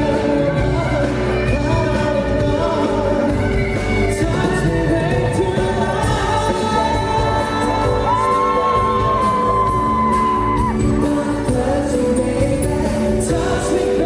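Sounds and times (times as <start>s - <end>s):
lead vocalist singing: 0.0s - 14.0s
pop-rock band playing: 0.0s - 14.0s.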